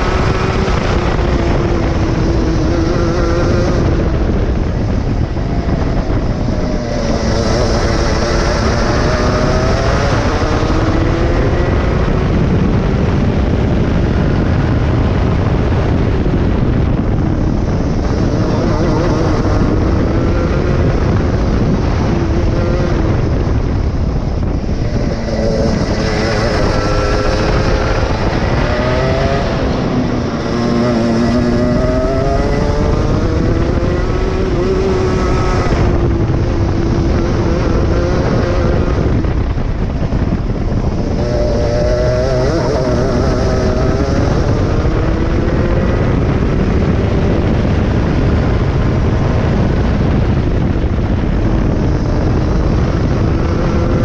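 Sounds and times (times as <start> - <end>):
go-kart engine running hard: 0.0 - 54.0
wind rumble on microphone: 0.0 - 54.0.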